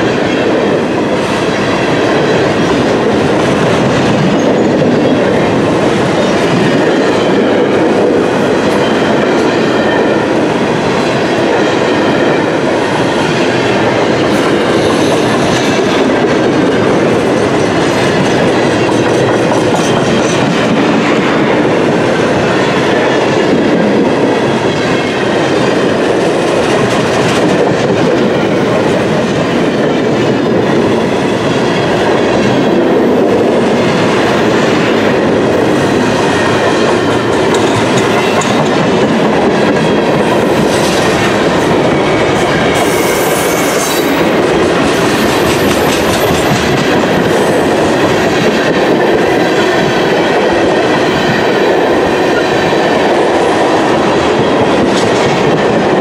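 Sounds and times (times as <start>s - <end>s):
freight train wheels clattering on rails: 0.0s - 56.0s.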